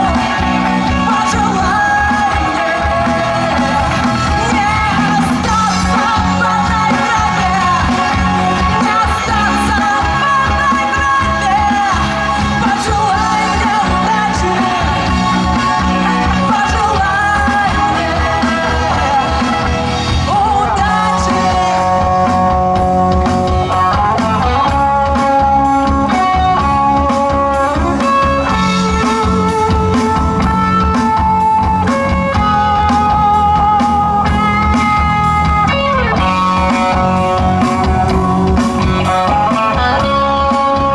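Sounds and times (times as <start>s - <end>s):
bass guitar: 0.0s - 40.9s
drums beat: 0.0s - 40.9s
electric guitar: 0.0s - 40.9s.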